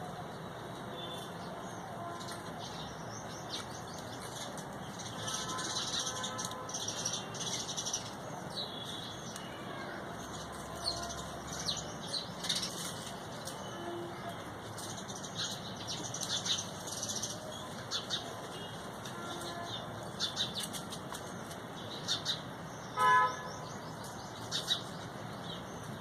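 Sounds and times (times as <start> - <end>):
small birds chirping: 0.4 - 26.0.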